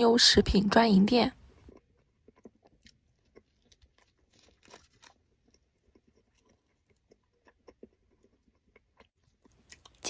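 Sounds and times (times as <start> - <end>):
faint crunching and chewing: 1.3 - 10.0
small crackles: 1.4 - 10.0.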